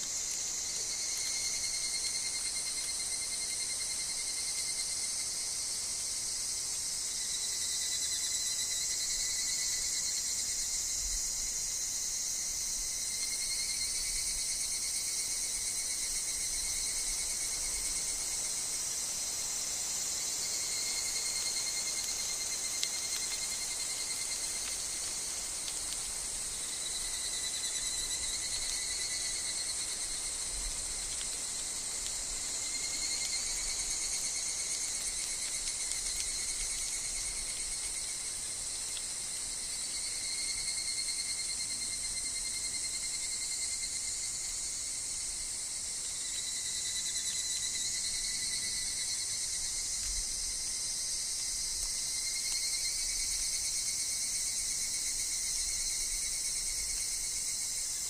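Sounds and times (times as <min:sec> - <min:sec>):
cicadas chorus: 0:00.0 - 0:58.0.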